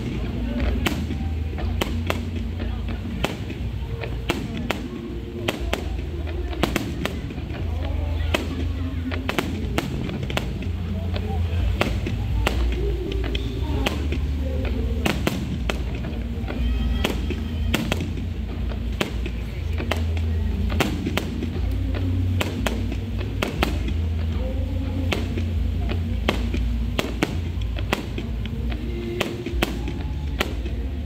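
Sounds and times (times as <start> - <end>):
firework shells bursting: 0.0 - 24.4, 25.0 - 31.0
continuous low rumble: 0.0 - 31.0.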